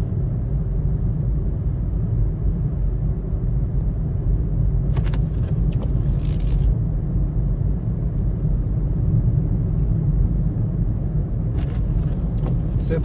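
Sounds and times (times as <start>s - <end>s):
vehicle driving rumble: 0.0s - 13.0s.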